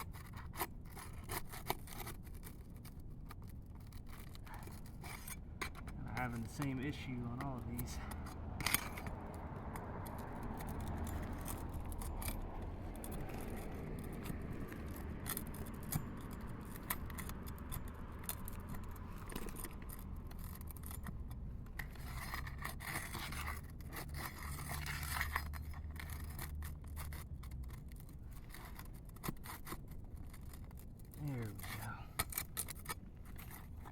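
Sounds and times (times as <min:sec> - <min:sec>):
tool scraping roof shingles: 0:00.0 - 0:33.9.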